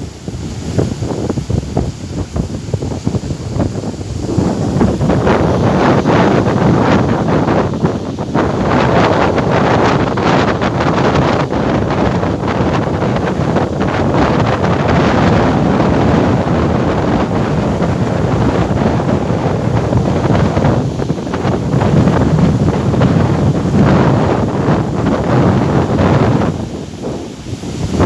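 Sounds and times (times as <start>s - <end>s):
waves breaking in heavy surf: 0.0s - 28.0s
wind buffeting microphone: 0.0s - 28.0s.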